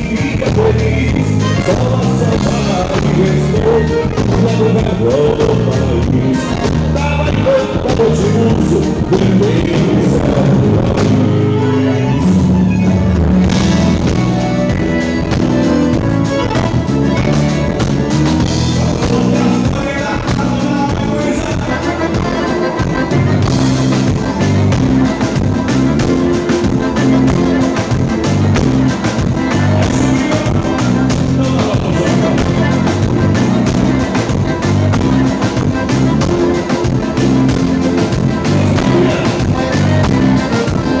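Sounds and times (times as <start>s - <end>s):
live band music: 0.0s - 41.0s
steady drum beat: 0.0s - 41.0s.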